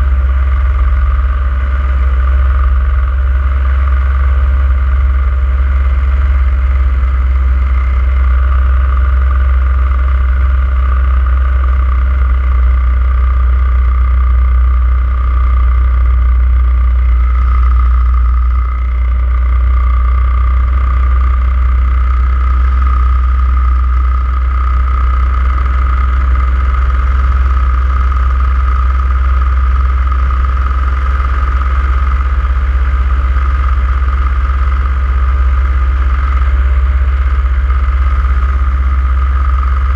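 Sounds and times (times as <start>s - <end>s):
high whine: 0.0s - 39.9s
paramotor engine drone: 0.0s - 39.9s.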